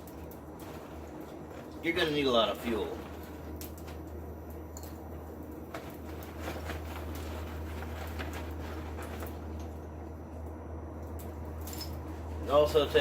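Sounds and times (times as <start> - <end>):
charcoal fire crackling and popping: 0.0 - 13.0
steady low hum: 0.0 - 13.0.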